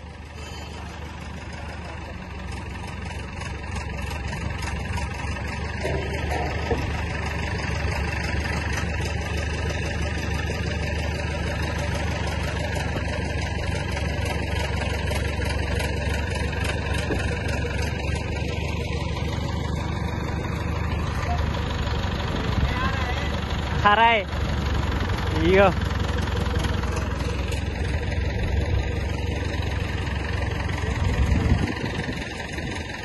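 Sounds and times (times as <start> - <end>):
crane diesel engine under load: 0.0 - 33.0.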